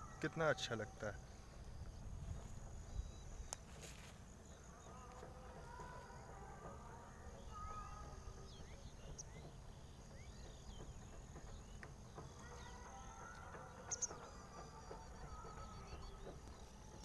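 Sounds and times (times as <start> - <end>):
birds chirping: 0.0 - 17.0
steady high-pitched hum: 0.0 - 17.0.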